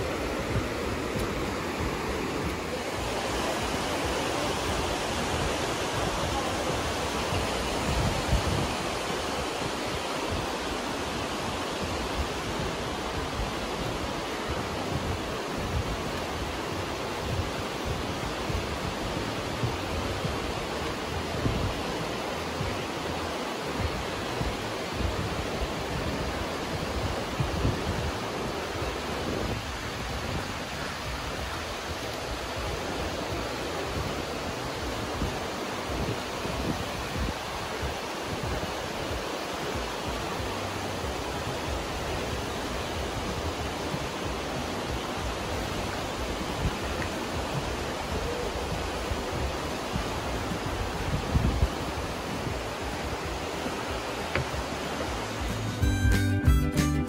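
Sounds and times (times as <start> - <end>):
fast-flowing river water: 0.0 - 55.9.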